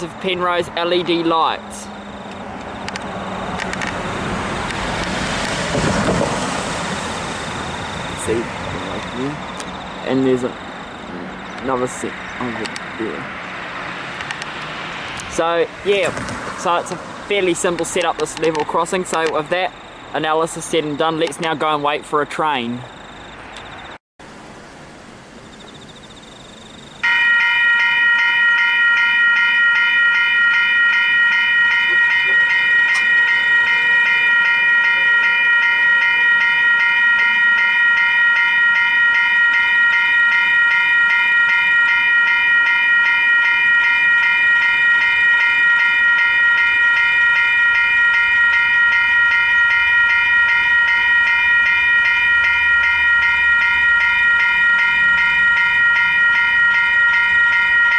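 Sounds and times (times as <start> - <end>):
level crossing bells ringing: 0.0 - 5.7, 6.4 - 24.0, 25.6 - 57.9.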